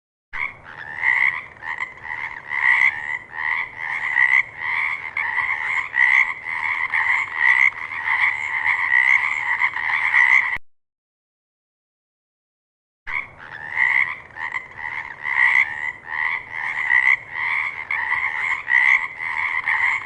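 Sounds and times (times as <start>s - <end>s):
frogs croaking: 0.4s - 10.6s, 13.1s - 20.0s.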